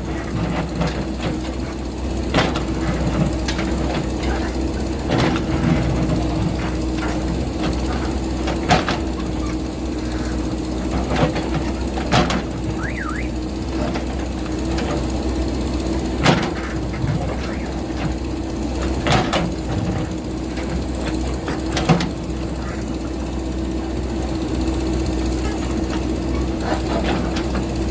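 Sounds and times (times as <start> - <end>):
diesel engine under load: 0.0 - 27.9.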